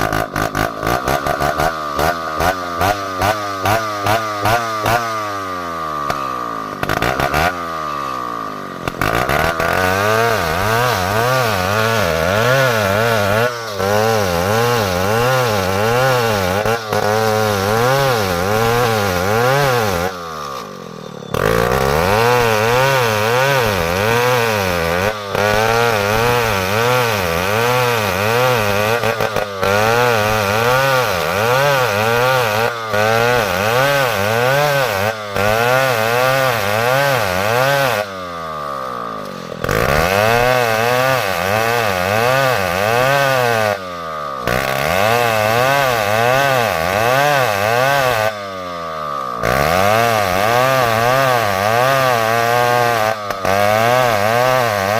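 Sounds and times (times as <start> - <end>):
chainsaw cutting timber: 0.0 - 54.9.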